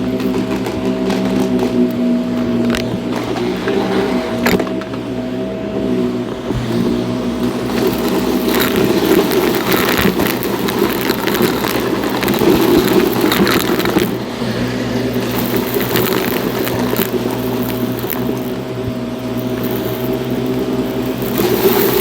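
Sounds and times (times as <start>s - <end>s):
debris crackling through vacuum: 0.0s - 22.0s
vacuum cleaner running: 0.0s - 22.0s.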